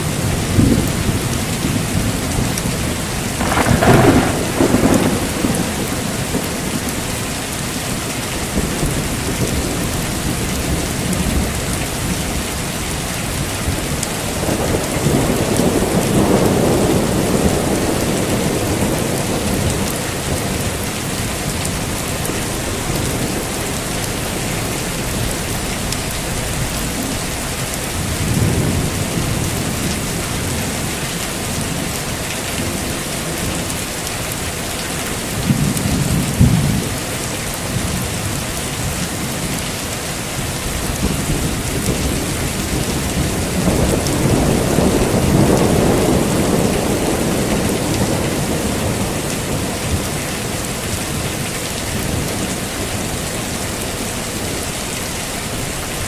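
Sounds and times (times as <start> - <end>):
thunder rumbling: 0.0 - 34.3, 40.4 - 54.0
heavy rain: 0.0 - 56.0.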